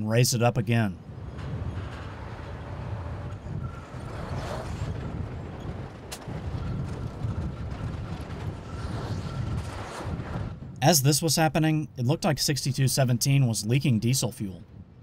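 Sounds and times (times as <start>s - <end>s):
faint engine whine: 0.8s - 14.0s.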